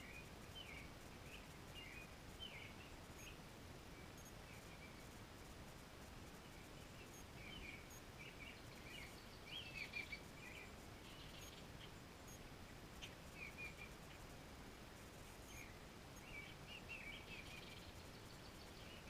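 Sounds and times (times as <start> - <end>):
low outdoor hiss: 0.0 - 19.0
songbirds chirping and twittering: 0.0 - 19.0.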